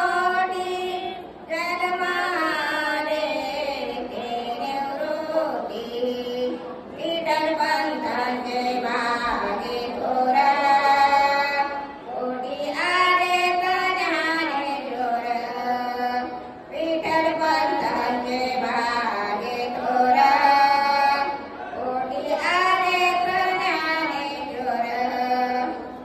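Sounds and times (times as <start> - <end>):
elderly woman singing: 0.0 - 26.0.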